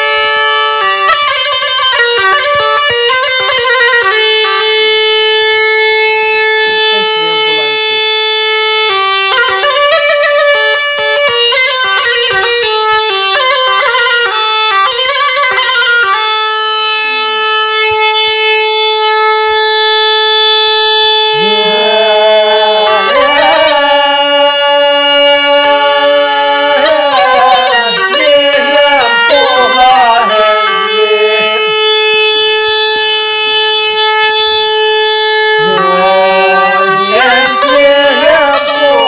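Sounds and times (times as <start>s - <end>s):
bagpipe playing folk melody: 0.0s - 39.0s.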